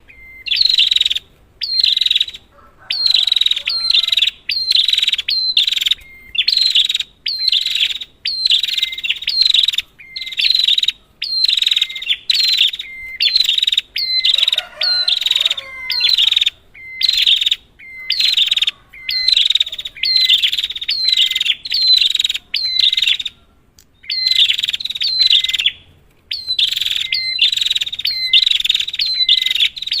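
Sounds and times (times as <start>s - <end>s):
bird singing high chattering phrases: 0.0s - 30.0s.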